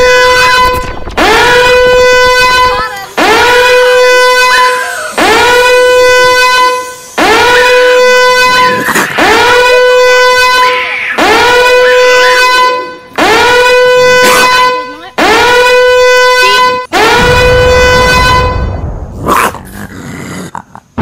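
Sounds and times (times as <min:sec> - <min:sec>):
buzzy horn blasts: 0:00.0 - 0:18.9.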